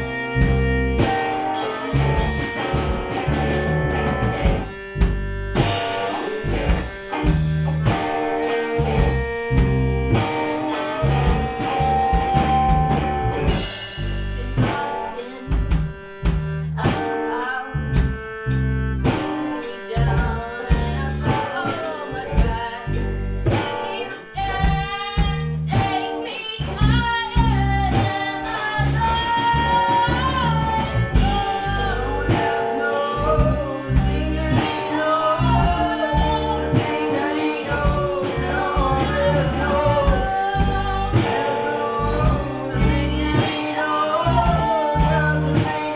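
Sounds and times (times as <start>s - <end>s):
accordion: 0.0s - 45.9s
bass: 0.0s - 45.9s
drum kit beat: 0.0s - 45.9s
guitar: 0.0s - 45.9s.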